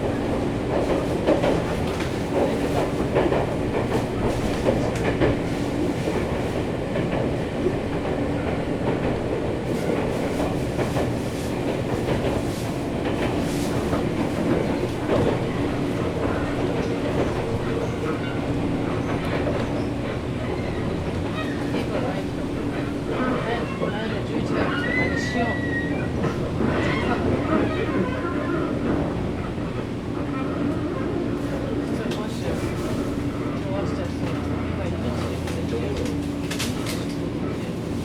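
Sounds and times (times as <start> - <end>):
train rolling hum: 0.0 - 38.0.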